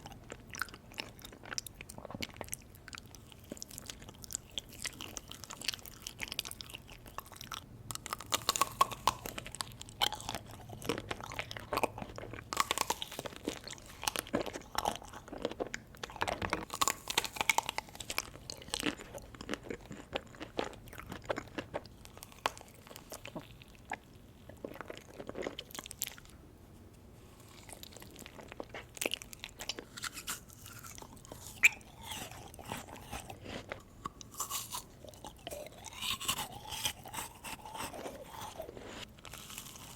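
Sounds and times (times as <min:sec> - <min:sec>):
eating ice cream crunching: 0:00.0 - 0:26.3, 0:27.4 - 0:39.9.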